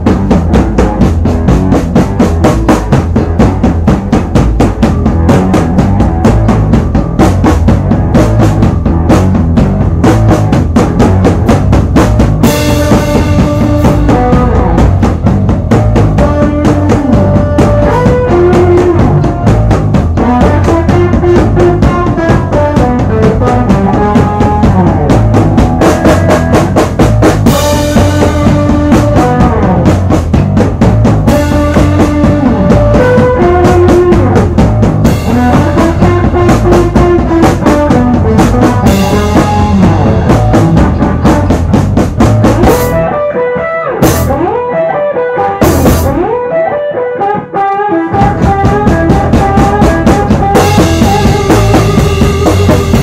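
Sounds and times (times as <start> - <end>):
drum beat: 0.0 - 46.6, 48.1 - 53.0
live rock band playing: 0.0 - 53.0.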